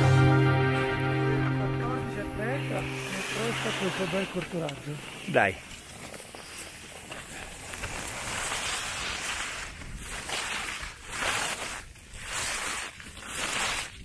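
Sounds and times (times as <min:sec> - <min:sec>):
skis scraping on snow: 0:01.1 - 0:14.0.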